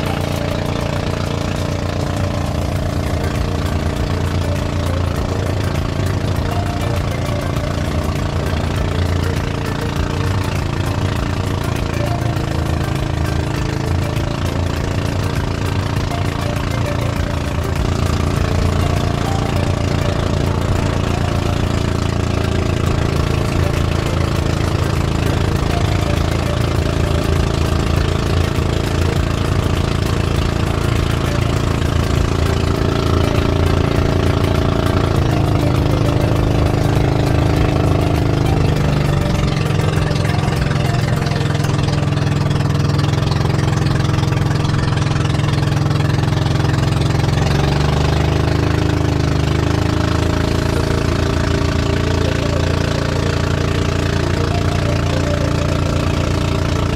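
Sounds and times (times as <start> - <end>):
small boat engine running: 0.0 - 56.9.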